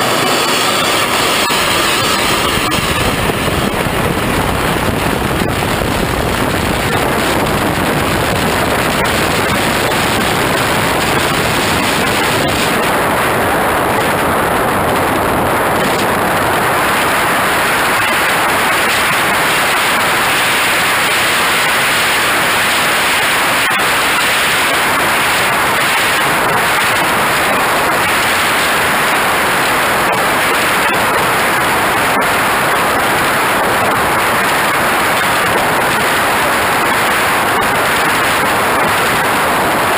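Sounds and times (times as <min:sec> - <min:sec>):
model jet engine rushing: 0:00.0 - 0:39.9
wind on microphone: 0:00.0 - 0:39.9.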